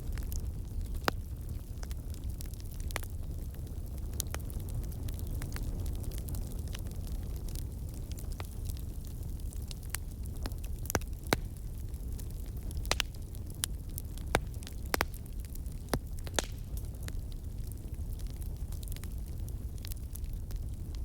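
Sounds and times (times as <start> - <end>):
low rumble of flames: 0.0 - 21.0
pops and snaps of burning logs: 0.0 - 21.0.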